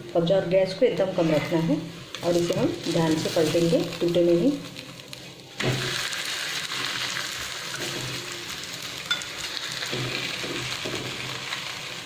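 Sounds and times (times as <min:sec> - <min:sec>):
oil sizzling: 0:00.2 - 0:12.0.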